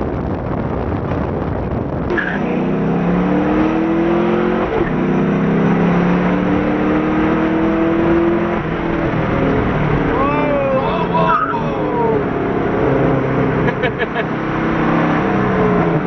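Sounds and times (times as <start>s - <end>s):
car engine accelerating hard: 0.7s - 16.0s.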